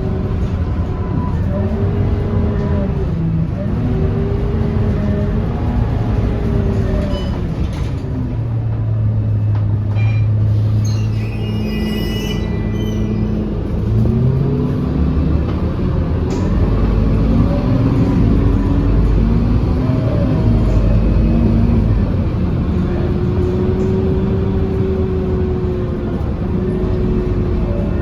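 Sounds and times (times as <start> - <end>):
bus diesel engine accelerating: 0.0 - 28.0.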